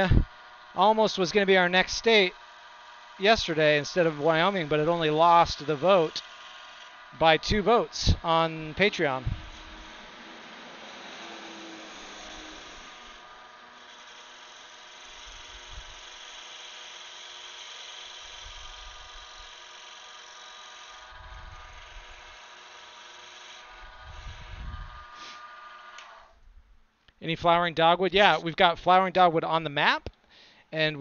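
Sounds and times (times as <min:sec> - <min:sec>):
turning tool scraping wood: 0:00.0 - 0:26.4
wood lathe motor whine: 0:00.0 - 0:26.4.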